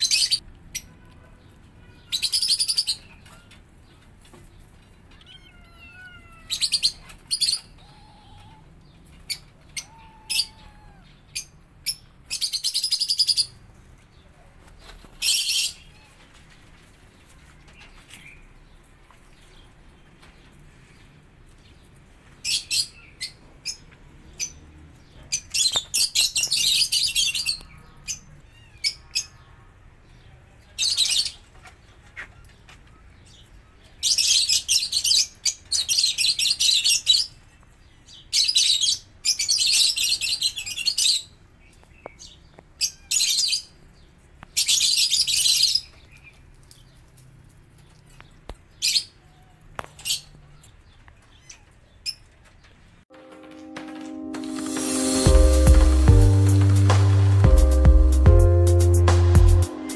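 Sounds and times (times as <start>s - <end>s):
small birds chirping: 0.0s - 53.1s.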